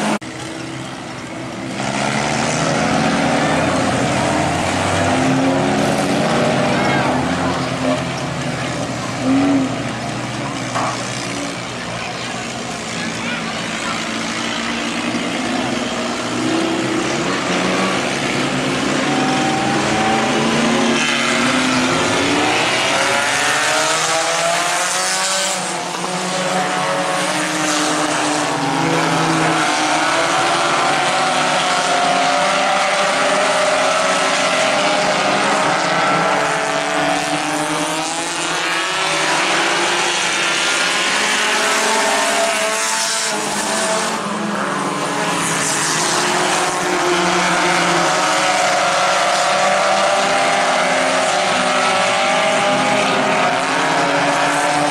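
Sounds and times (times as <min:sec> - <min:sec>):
race car engines: 0:00.0 - 0:54.9.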